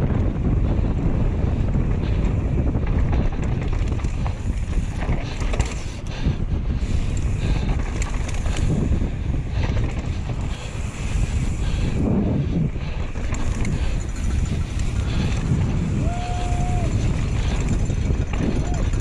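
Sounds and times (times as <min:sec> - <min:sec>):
bike tyres rolling on dirt trail: 0:00.0 - 0:19.0
wind buffeting microphone: 0:00.0 - 0:19.0.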